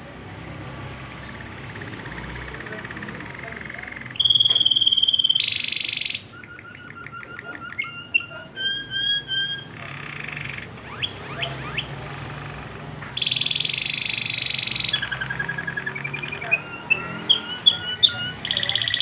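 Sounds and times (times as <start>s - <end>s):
canary singing: 0.8s - 19.0s.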